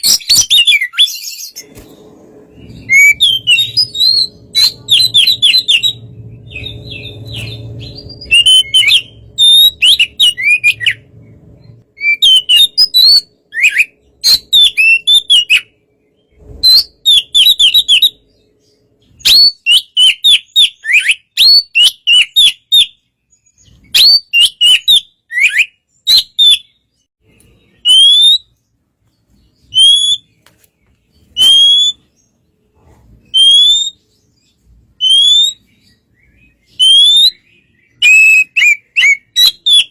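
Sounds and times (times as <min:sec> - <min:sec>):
bird singing whistled notes: 0:00.0 - 0:28.7, 0:29.3 - 0:30.4, 0:31.1 - 0:32.4, 0:33.3 - 0:39.9.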